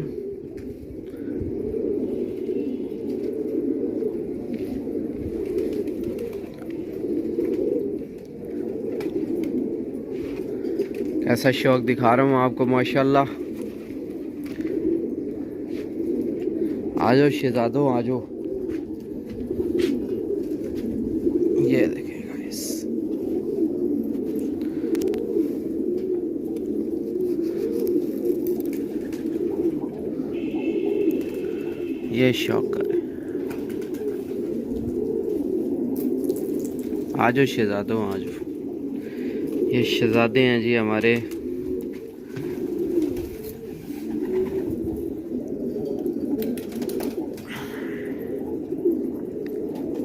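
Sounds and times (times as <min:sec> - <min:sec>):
pigeons cooing: 0:00.0 - 0:50.0.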